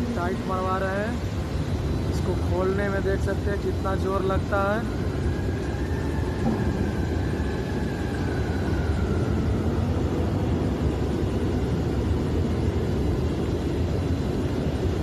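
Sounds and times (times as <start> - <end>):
machinery rumbling: 0.0 - 14.6.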